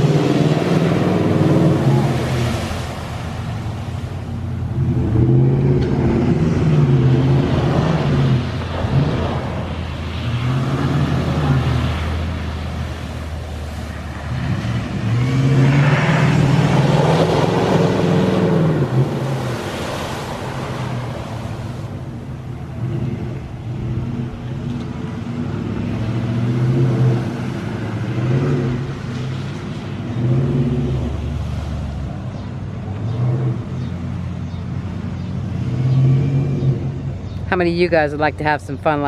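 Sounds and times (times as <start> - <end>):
truck engine revving: 0.0 - 37.5.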